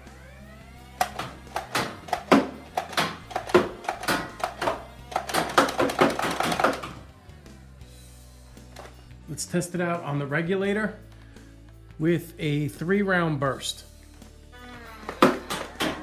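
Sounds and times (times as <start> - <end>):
background guitar music: 0.0 - 16.0.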